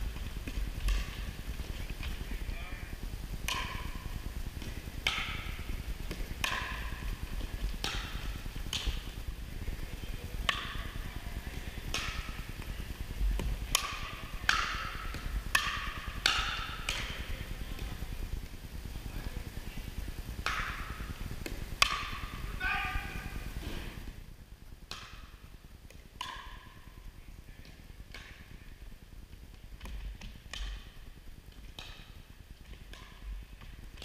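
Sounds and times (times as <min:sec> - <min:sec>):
paddles hitting pickleball: 0:00.2 - 0:02.5, 0:03.4 - 0:18.4, 0:20.4 - 0:24.2, 0:24.9 - 0:26.8, 0:27.6 - 0:28.7, 0:29.5 - 0:34.0.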